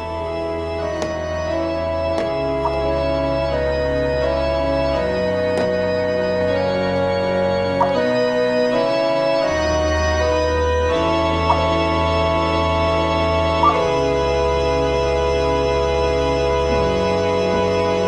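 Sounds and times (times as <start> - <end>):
organ chords: 0.0 - 18.0.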